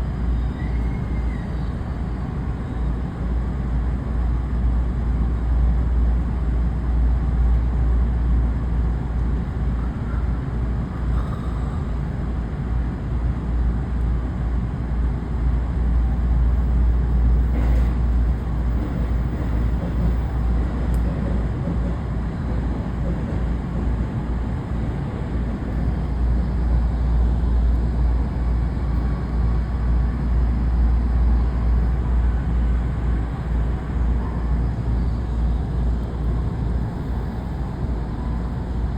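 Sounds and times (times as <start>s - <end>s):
low rumble of trains: 0.0s - 38.9s
station machinery rumble: 0.0s - 38.9s.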